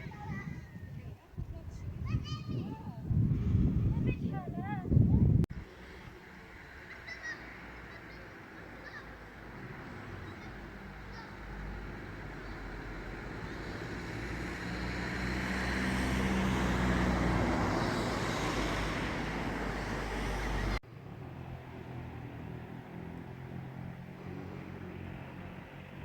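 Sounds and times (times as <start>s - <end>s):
motor vehicle passing: 1.8s - 26.0s.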